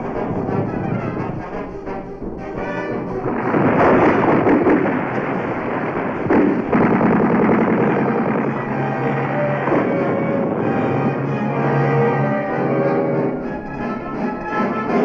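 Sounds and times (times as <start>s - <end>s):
rapid gunfire: 0.0s - 12.2s
film soundtrack music: 0.0s - 15.0s.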